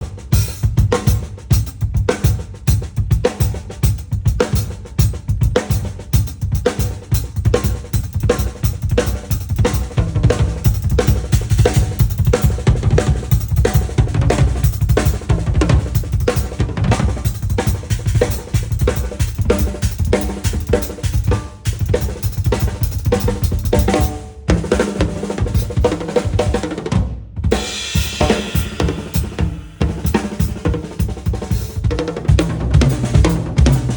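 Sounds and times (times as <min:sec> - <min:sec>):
drum kit playing fast groove: 0:00.0 - 0:33.9.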